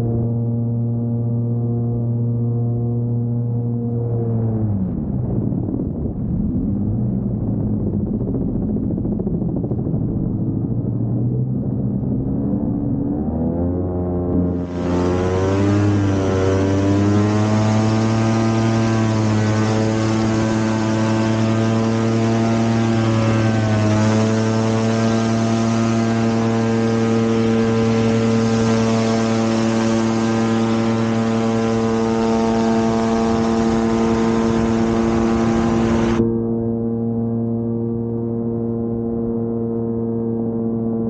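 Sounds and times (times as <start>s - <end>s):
gyroplane engine and propeller: 0.0s - 41.0s.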